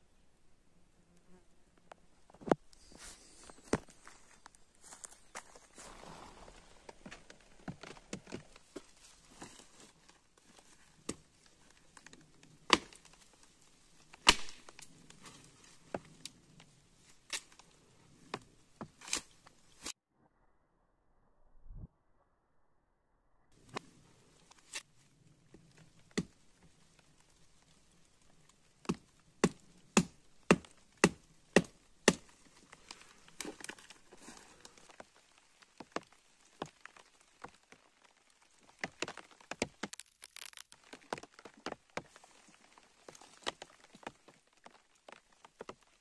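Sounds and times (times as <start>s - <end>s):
rustle of leaves and twigs: 1.8s - 20.0s, 23.6s - 46.0s.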